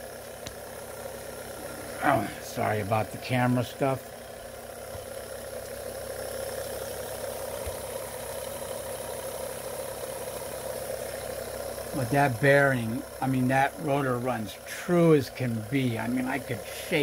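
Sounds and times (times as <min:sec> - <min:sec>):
motor rotor whirring hum: 0:00.0 - 0:17.0.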